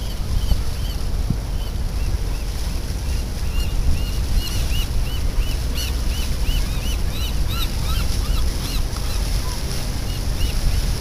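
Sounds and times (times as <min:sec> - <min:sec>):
boat engine rumble: 0:00.0 - 0:11.0
wind on microphone: 0:00.0 - 0:11.0.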